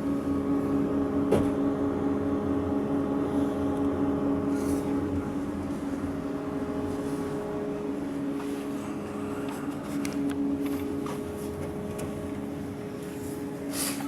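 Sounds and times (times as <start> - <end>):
ship machinery drone: 0.0 - 14.0.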